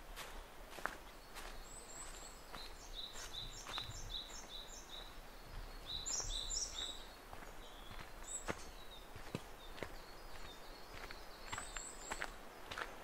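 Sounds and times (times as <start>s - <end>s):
footsteps crunching on trail: 0.0s - 13.0s
songbird singing: 0.0s - 13.0s.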